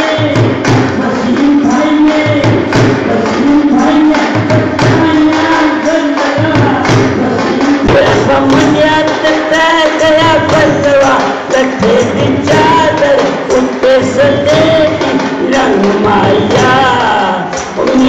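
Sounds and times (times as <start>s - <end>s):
drum beating steady rhythm: 0.0s - 18.0s
man singing folk song: 0.0s - 18.0s.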